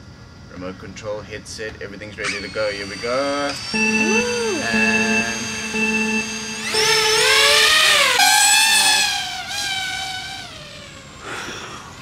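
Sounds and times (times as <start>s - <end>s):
drone motors and propellers whining: 2.2s - 12.0s.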